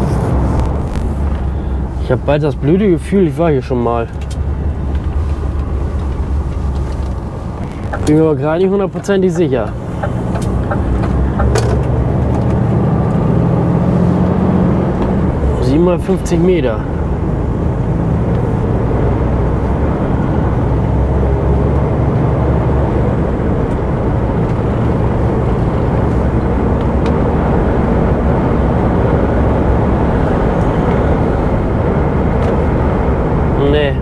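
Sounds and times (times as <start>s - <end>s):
diesel truck engine rumble: 0.0s - 34.0s
road noise: 0.0s - 34.0s.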